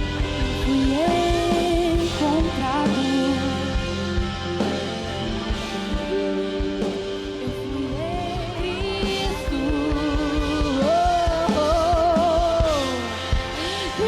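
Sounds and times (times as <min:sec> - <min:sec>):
live worship band music: 0:00.0 - 0:14.0
person singing: 0:00.0 - 0:14.0.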